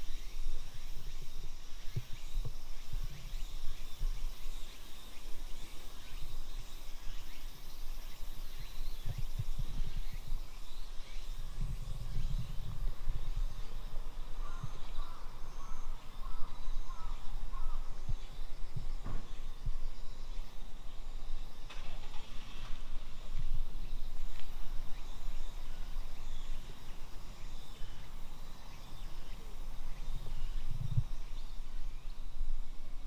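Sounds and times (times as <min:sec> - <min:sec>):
insects chirring: 0:00.0 - 0:33.0
wind rumble on microphone: 0:00.0 - 0:33.0.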